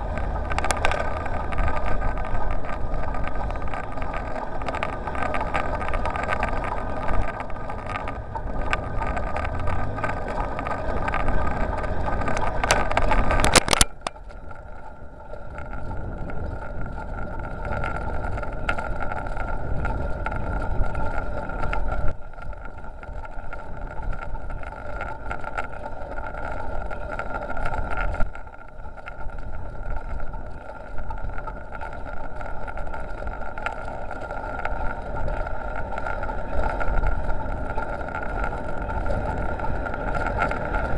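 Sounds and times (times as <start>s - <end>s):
bicycle rolling noise: 0.0s - 40.9s
steady whine: 0.0s - 40.9s
wind on microphone: 0.0s - 40.9s.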